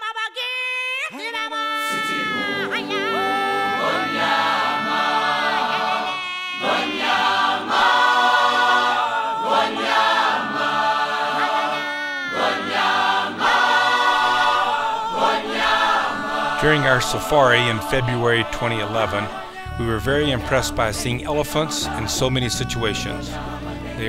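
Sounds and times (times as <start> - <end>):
choir singing long notes: 1.8 - 24.0.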